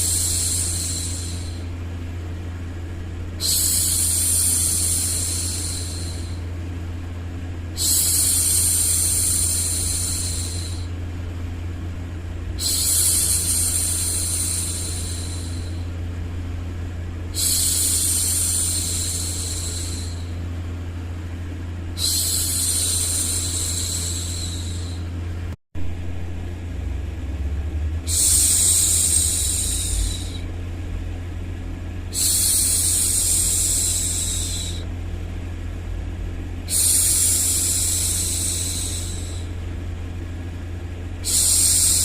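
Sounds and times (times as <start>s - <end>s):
low white noise hum: 0.0s - 42.0s.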